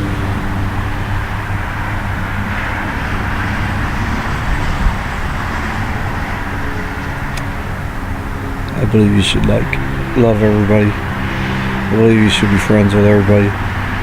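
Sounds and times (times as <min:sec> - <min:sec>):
low engine hum: 0:00.0 - 0:14.0
vehicle passing on road: 0:00.0 - 0:14.0.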